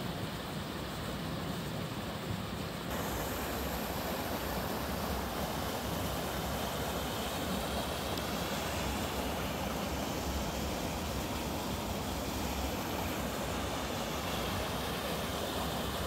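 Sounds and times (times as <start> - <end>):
stream water rushing over rocks: 0.0 - 16.0.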